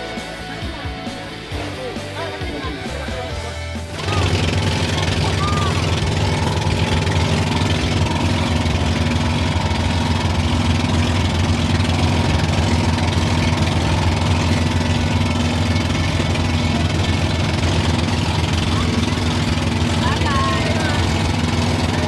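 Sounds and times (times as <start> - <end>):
boat engine droning: 1.8 - 22.0
water noise: 3.8 - 22.0.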